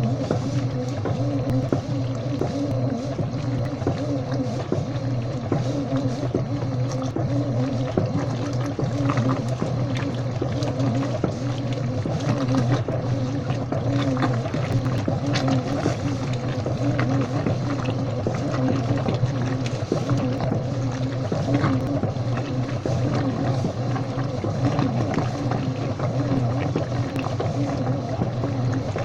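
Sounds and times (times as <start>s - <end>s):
washing machine motor hum: 0.0s - 29.0s
water sloshing and trickling: 0.0s - 29.0s.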